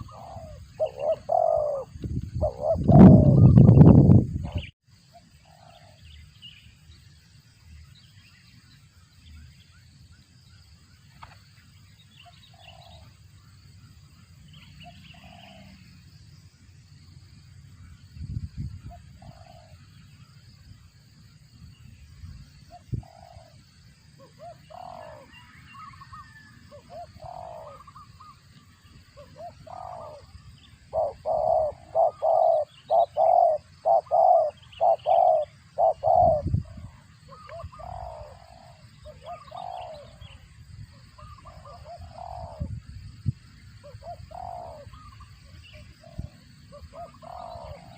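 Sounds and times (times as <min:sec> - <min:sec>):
dove calling: 0:00.0 - 0:06.4, 0:08.5 - 0:16.1, 0:17.6 - 0:20.9, 0:22.2 - 0:47.9.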